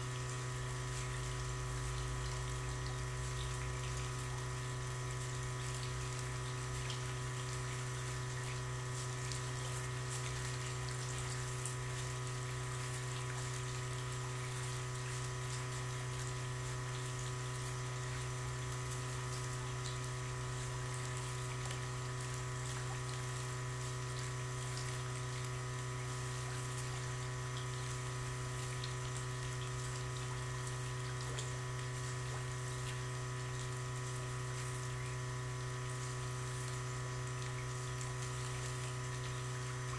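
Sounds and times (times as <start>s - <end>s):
faint moving water: 0.0s - 39.9s
low mechanical hum: 0.0s - 39.9s.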